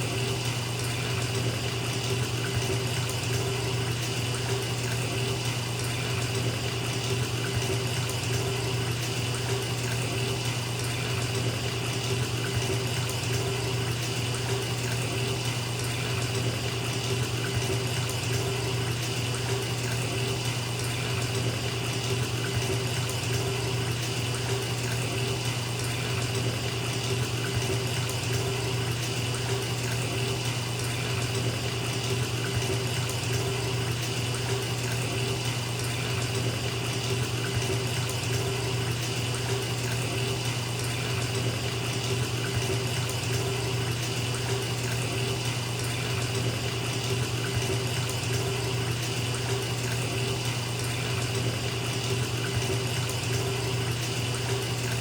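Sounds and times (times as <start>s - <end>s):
water running into bathtub: 0.0s - 55.0s.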